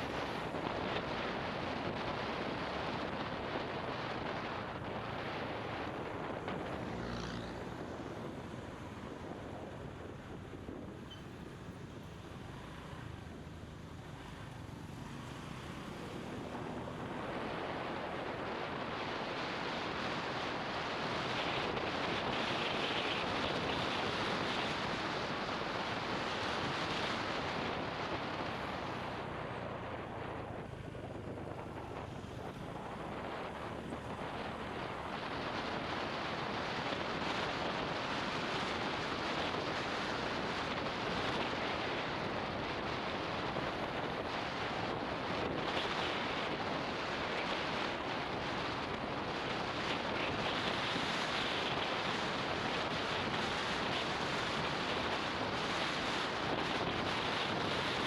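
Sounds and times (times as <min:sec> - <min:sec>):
motorbike road and engine noise: 0:00.0 - 0:58.0
wind rushing over microphone: 0:00.0 - 0:58.0.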